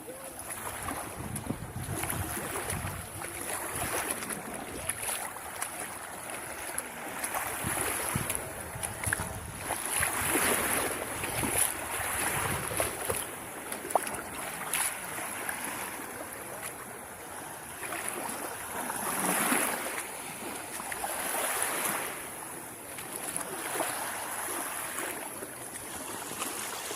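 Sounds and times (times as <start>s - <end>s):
small waves washing ashore: 0.0s - 26.9s.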